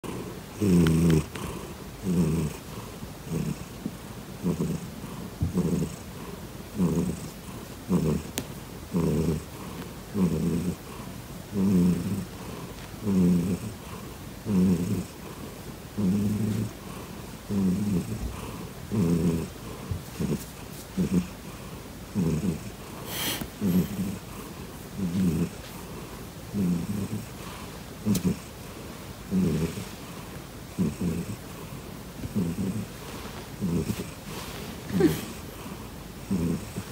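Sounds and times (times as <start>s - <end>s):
cat purring loudly: 0.0s - 36.9s.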